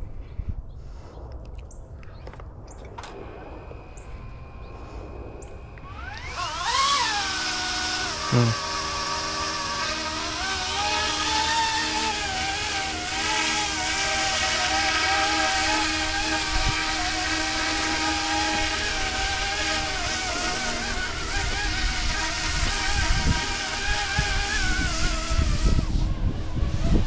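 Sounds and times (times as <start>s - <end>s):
model helicopter motor whining: 3.0s - 27.0s.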